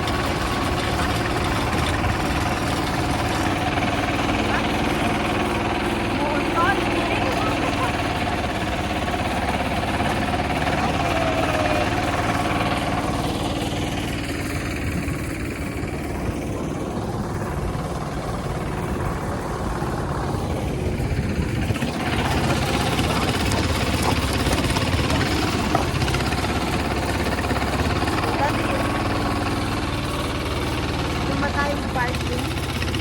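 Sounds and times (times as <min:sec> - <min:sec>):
tractor engine chugging: 0:00.0 - 0:33.0.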